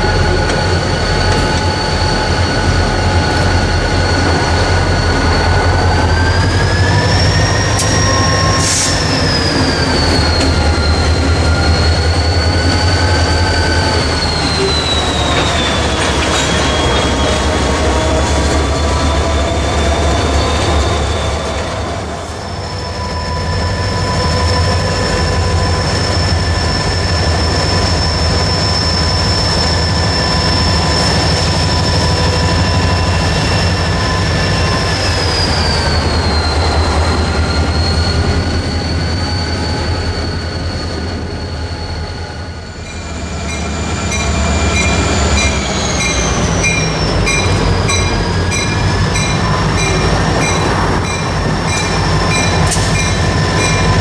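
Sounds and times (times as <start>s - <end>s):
diesel locomotive engine drone: 0.0s - 54.0s
wheels squealing on rails: 0.0s - 54.0s.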